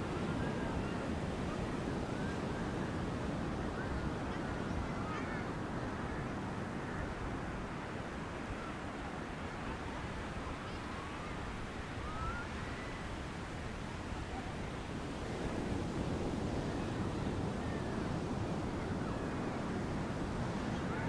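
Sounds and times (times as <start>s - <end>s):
ocean surf washing on beach: 0.0s - 21.0s
wind on microphone: 0.0s - 21.0s.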